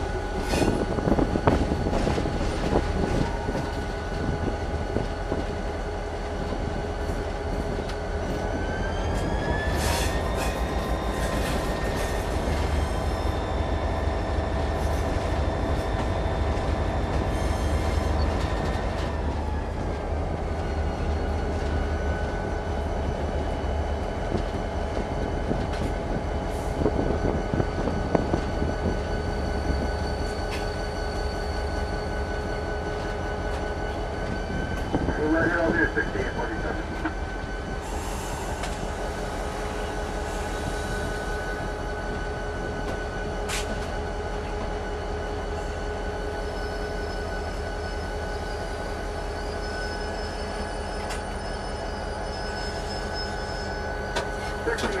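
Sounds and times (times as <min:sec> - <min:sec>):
diesel locomotive engine whine: 0:00.0 - 0:55.0.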